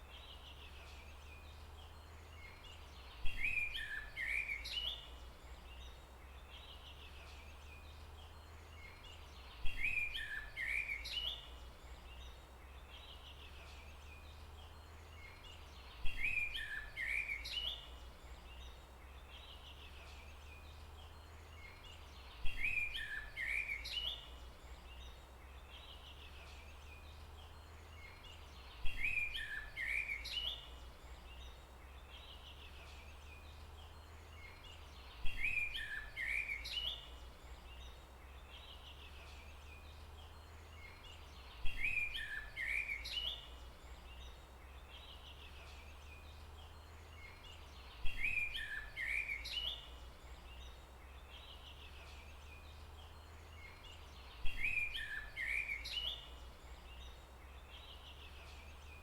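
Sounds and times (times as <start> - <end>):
bird song with gliding chirps: 0.0 - 59.0.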